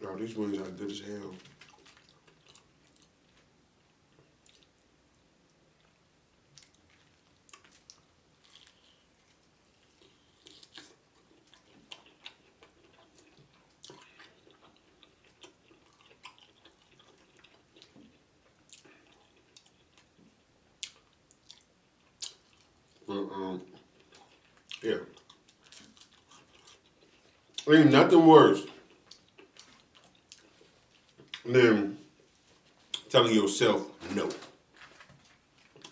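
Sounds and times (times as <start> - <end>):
faint chewing: 0.5 - 27.7, 28.5 - 33.1, 34.7 - 35.9.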